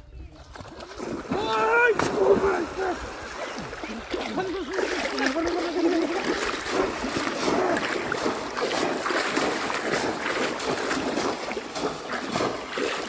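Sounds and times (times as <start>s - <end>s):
river water splashing: 0.3s - 13.0s.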